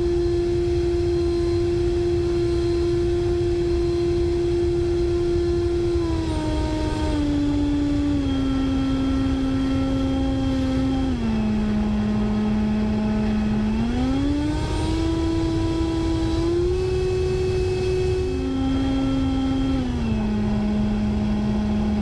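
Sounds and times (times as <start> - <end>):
electric ducted fan whining: 0.0 - 22.0
wind rushing over microphone: 0.0 - 22.0.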